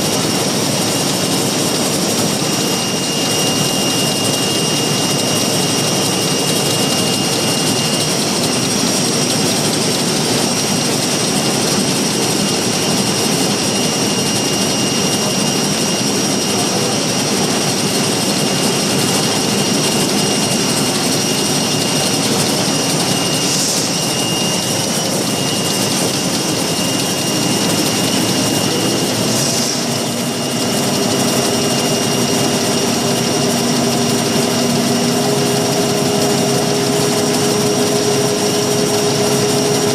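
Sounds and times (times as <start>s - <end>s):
machine whirring with high whine: 0.0s - 39.9s.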